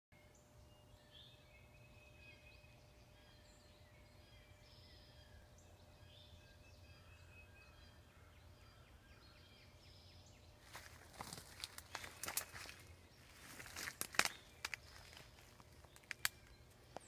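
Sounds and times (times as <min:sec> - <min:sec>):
birds chirping and singing: 0:00.2 - 0:17.0.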